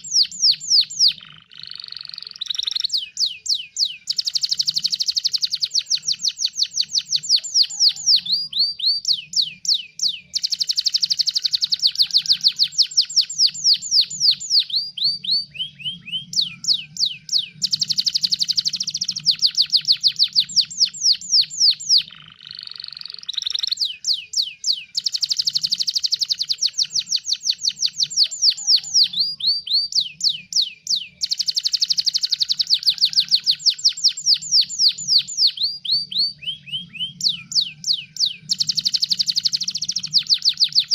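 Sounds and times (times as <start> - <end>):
canary singing fast trills: 0.0 - 40.9
harsh steady bird note: 0.0 - 40.9.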